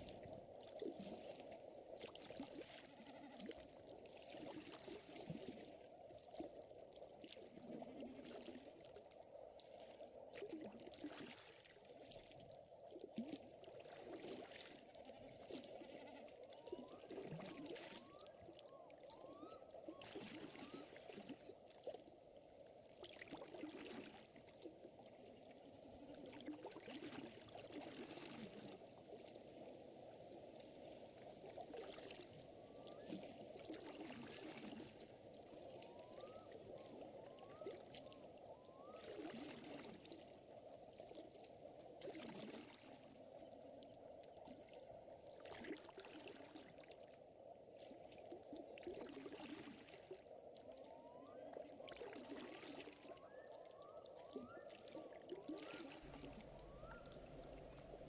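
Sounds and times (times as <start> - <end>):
water lapping and trickling: 0.0 - 58.0.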